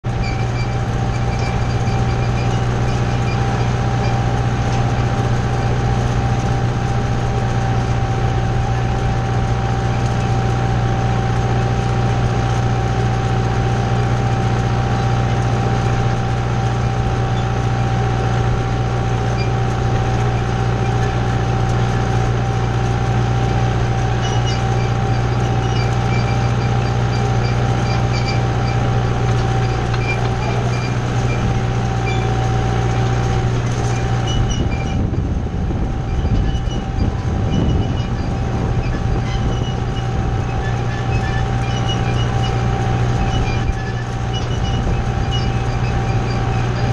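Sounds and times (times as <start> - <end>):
tractor diesel engine droning: 0.0 - 46.9.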